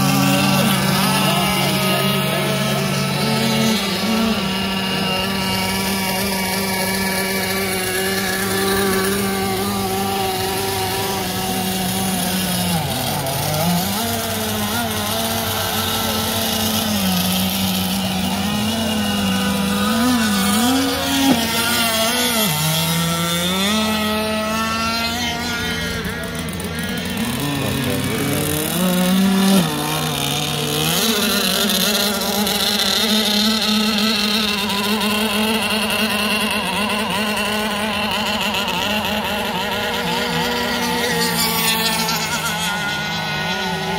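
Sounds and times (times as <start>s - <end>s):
model boat engines buzzing: 0.0s - 43.9s.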